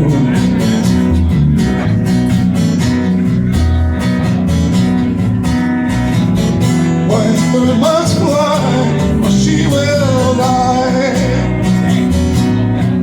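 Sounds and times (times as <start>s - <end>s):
acoustic guitar strumming: 0.0s - 13.0s
bass guitar: 0.0s - 13.0s.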